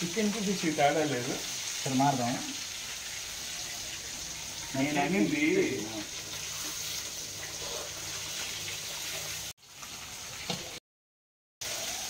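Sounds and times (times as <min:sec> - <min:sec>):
chicken frying in hot oil: 0:00.0 - 0:10.8, 0:11.6 - 0:12.0.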